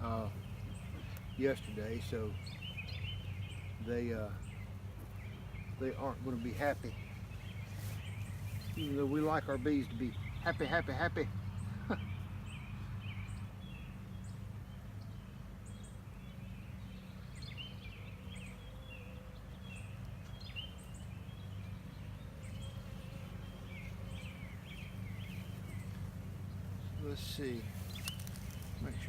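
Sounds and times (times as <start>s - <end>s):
bird chirps: 0.0s - 29.0s
honeybees humming: 0.0s - 29.0s.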